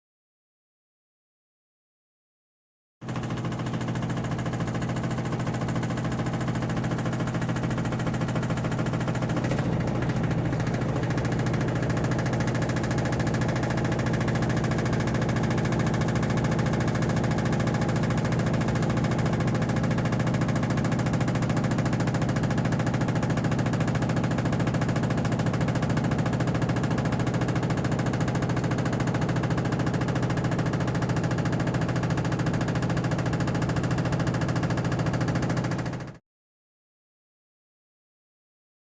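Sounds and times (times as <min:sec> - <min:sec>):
washing machine spinning: 0:03.0 - 0:36.0.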